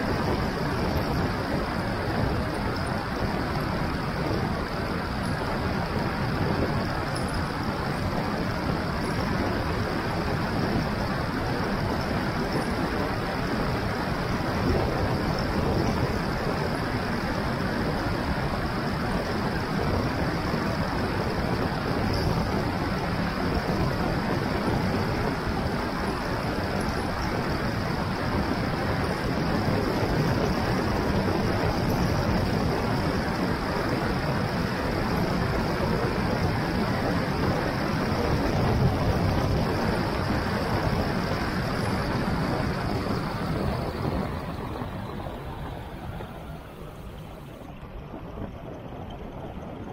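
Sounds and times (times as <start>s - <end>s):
tyre humming on asphalt: 0.0s - 49.9s
wind rushing over microphone: 0.0s - 49.9s.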